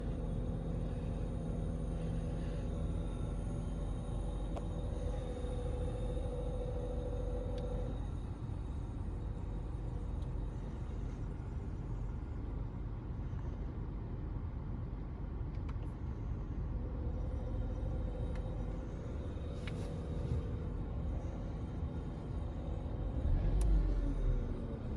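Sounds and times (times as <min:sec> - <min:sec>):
car air conditioning hum: 0:00.0 - 0:24.9
car interior rumble: 0:00.0 - 0:24.9.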